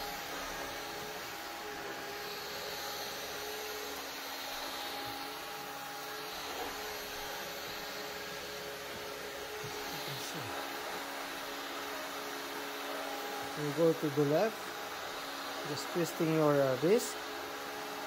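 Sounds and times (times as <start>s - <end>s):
stick vacuum running: 0.0s - 18.0s.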